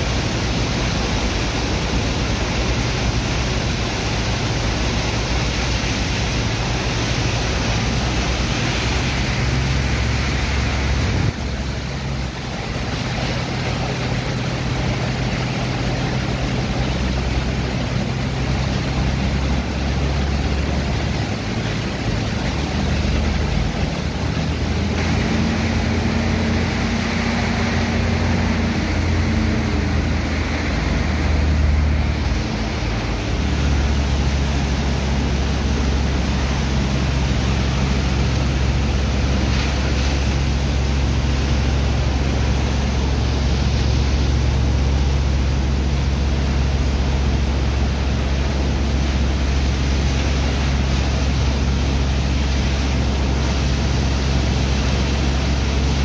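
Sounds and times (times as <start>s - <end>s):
low engine drone: 0.0s - 56.0s
water jets hissing and splashing: 0.0s - 56.0s.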